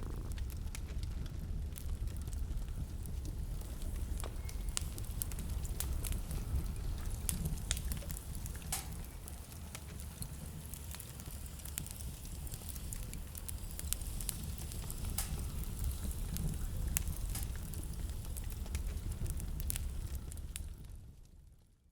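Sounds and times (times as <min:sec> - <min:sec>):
wood fire crackling: 0:00.0 - 0:21.8.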